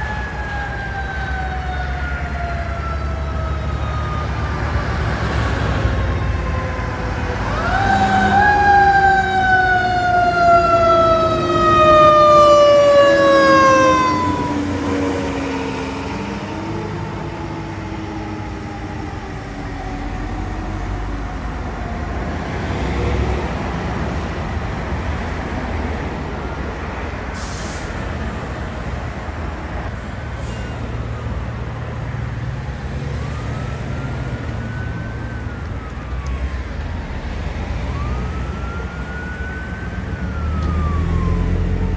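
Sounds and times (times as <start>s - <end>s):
faint siren: 0.0s - 23.6s, 30.0s - 41.9s
fire truck siren wailing: 0.0s - 28.1s, 29.9s - 41.9s
truck engines rumbling: 0.0s - 41.9s.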